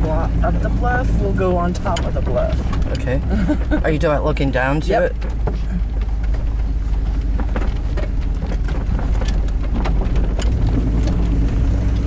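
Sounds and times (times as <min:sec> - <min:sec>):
knocks and rattles: 0:00.0 - 0:12.0
vehicle engine and tyres rumbling: 0:00.0 - 0:12.0.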